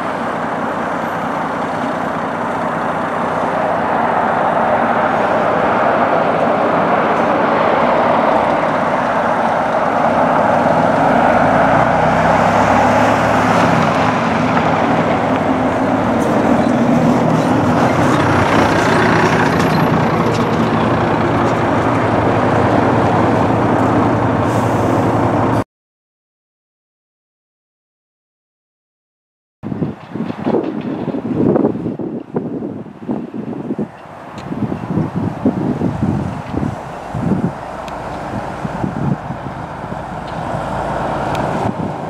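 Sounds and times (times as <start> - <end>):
diesel bus engine: 0.0 - 25.6, 29.7 - 42.0.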